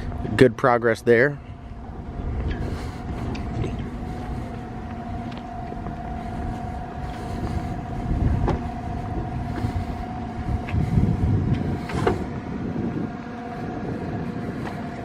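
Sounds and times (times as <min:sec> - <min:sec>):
engines humming: 0:00.0 - 0:15.0
low rumble: 0:01.3 - 0:15.0.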